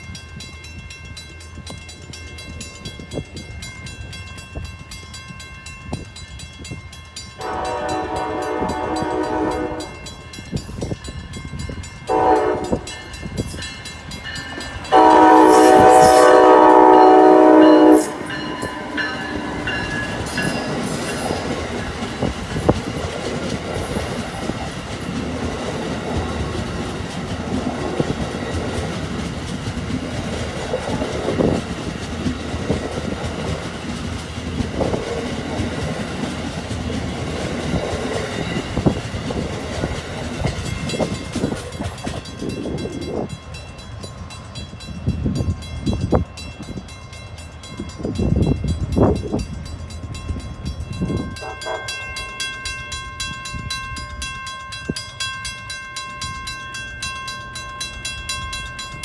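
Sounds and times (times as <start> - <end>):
crossing warning bell ringing: 0.0 - 59.0
passenger train clattering past: 0.0 - 59.0.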